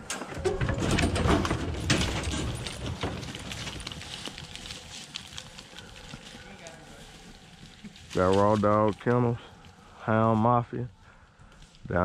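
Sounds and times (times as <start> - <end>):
dogs' paws clattering: 0.2 - 9.8
rustling of leaves: 1.4 - 12.0.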